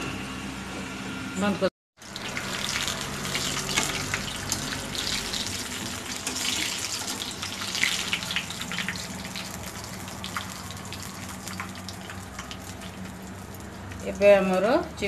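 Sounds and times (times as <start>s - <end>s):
deep-frying sizzle with pops: 2.0s - 14.8s.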